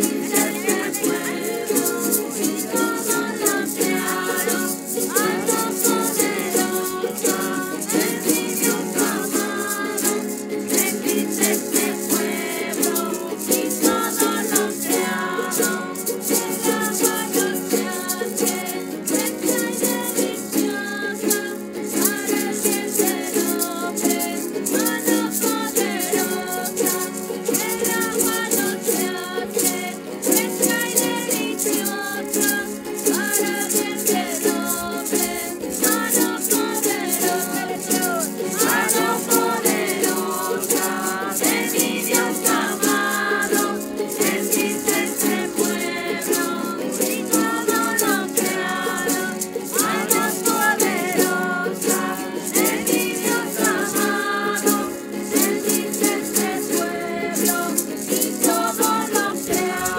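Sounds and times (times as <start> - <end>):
rattle shaken in time: 0.0 - 59.9
strummed mandolin and guitars: 0.0 - 59.9
voices singing: 0.0 - 59.9.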